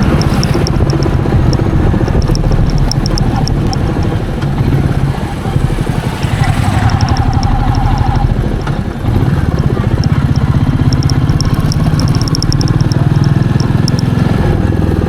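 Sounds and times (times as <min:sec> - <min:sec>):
light high ticks: 0:00.0 - 0:14.4
motorcycle engine running: 0:00.0 - 0:15.0.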